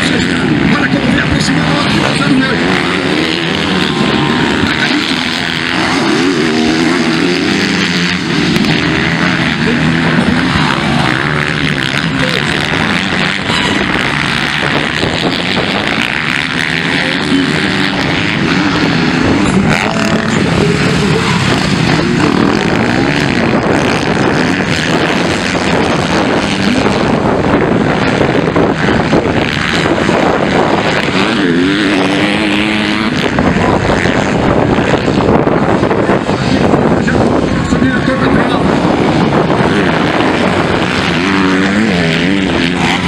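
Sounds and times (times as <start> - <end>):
motocross bike engines revving: 0.0 - 43.0.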